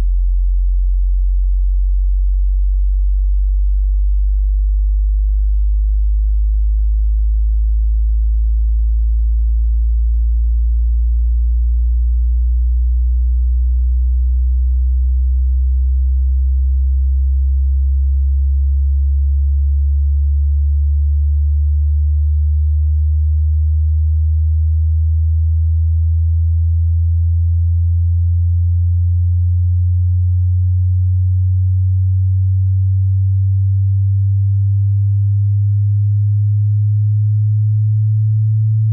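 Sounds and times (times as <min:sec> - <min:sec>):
low sine test tone gliding upward: 0:00.0 - 0:38.9.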